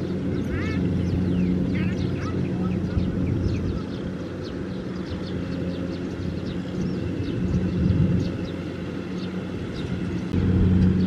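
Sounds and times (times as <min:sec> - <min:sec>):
tractor diesel engines running: 0:00.0 - 0:11.0.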